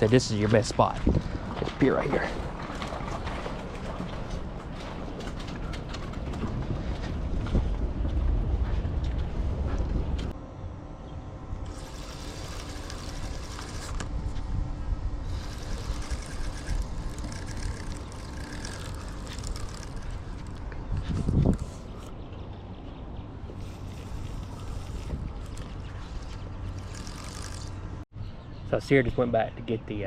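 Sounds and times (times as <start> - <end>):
motorboat engines rumbling: 0.0 - 8.0, 11.6 - 28.0.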